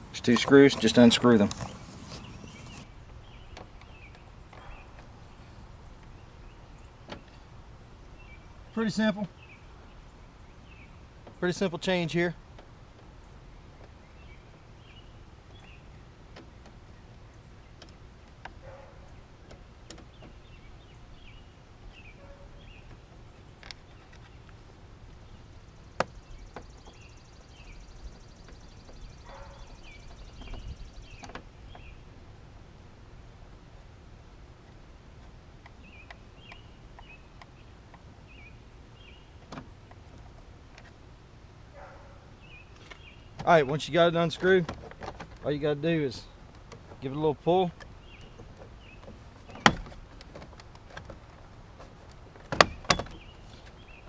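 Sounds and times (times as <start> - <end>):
birds chirping: 0.0 - 54.0
low outdoor rumble: 0.0 - 54.0.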